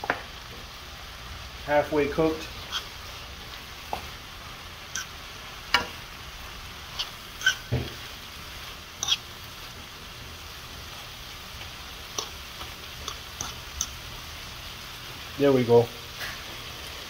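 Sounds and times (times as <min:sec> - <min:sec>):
vegetables sizzling in frying pan: 0:00.0 - 0:17.0.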